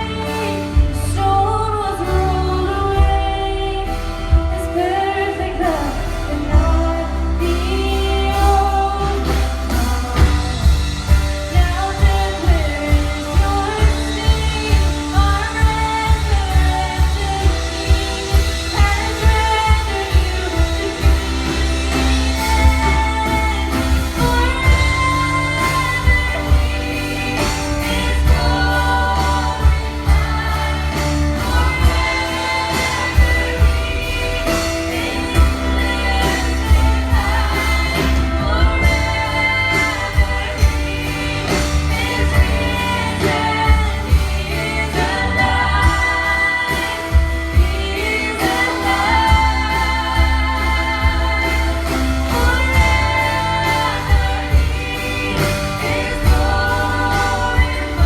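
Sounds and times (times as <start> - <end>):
worship band playing with singers: 0.0 - 58.0.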